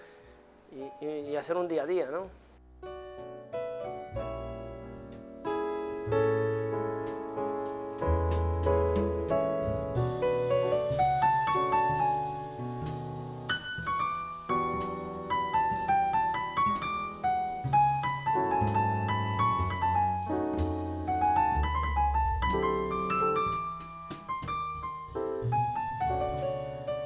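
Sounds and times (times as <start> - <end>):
piano music: 0.0 - 27.0.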